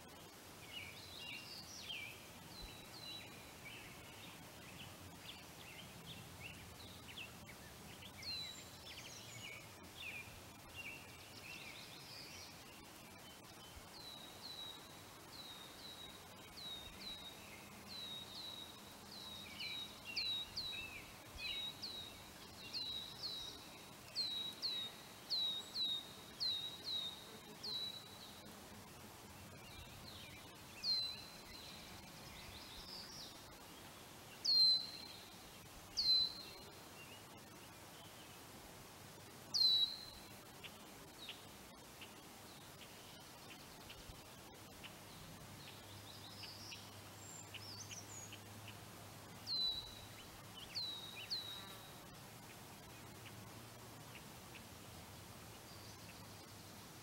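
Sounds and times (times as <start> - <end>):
flowing stream hiss: 0.0 - 57.0
songbird chirping: 0.0 - 57.0.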